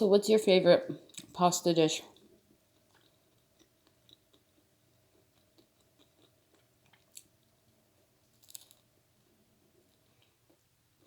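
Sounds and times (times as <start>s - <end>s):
person chewing: 2.1s - 11.0s.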